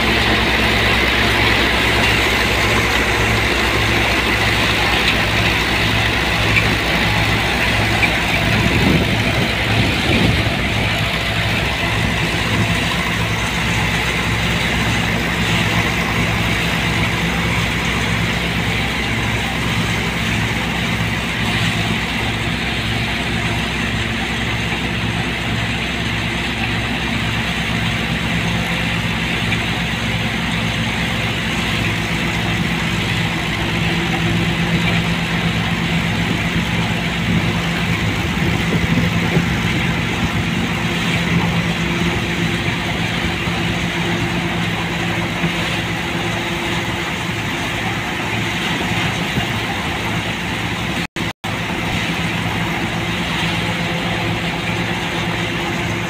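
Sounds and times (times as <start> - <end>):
thresher machinery whirring: 0.0 - 56.0
tractor diesel engine running: 0.0 - 56.0.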